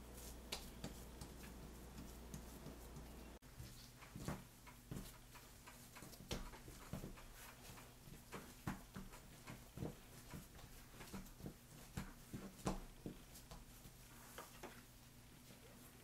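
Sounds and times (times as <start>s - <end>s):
hands patting bread dough: 0.0s - 14.8s.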